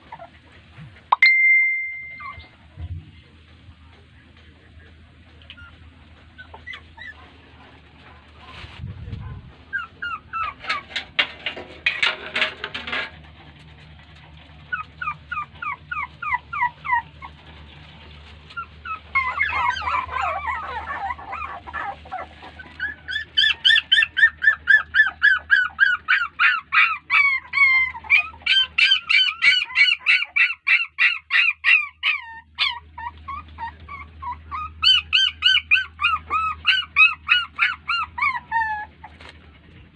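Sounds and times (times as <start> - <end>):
puppy yelping and whining: 0.0 - 2.6, 5.4 - 7.6, 9.6 - 12.8, 14.1 - 39.8.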